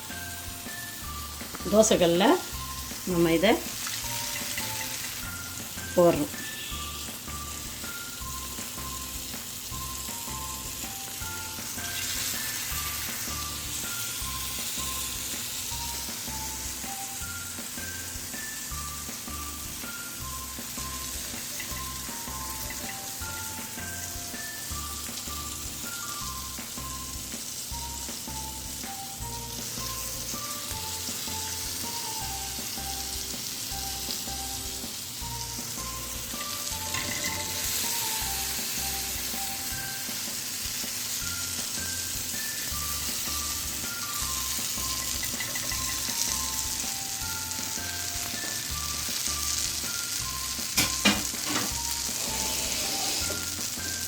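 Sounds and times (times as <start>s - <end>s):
eggs sizzling in oil: 0.0s - 54.0s.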